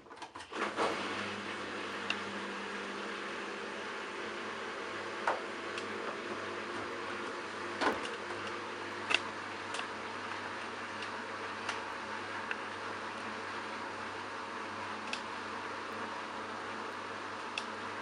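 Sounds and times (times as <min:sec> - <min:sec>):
washing machine running: 0:00.4 - 0:18.0.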